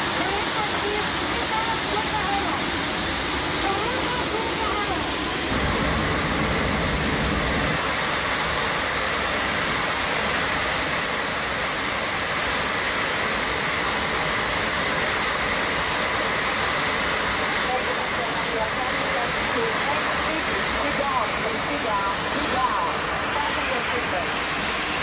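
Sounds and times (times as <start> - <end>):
aircraft cabin rushing roar: 0.0 - 25.0
jet engine noise: 0.0 - 25.0.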